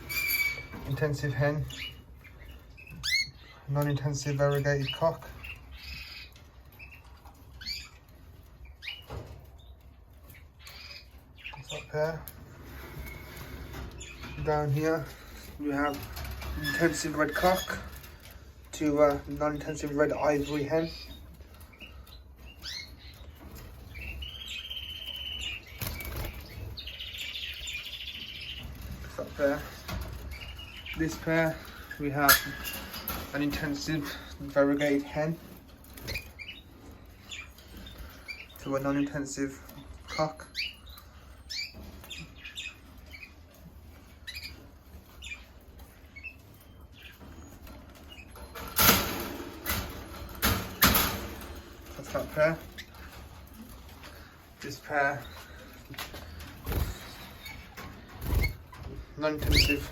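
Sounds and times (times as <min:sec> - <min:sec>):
canaries trilling: 0:00.0 - 0:59.9.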